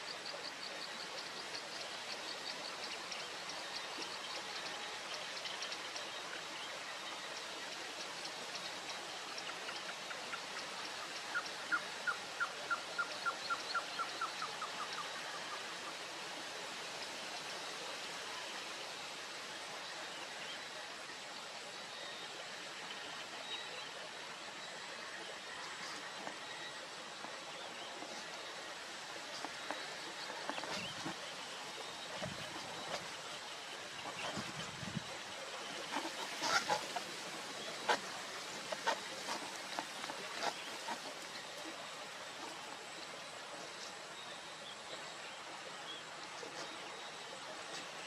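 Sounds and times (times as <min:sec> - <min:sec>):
steady outdoor hiss: 0:00.0 - 0:48.0.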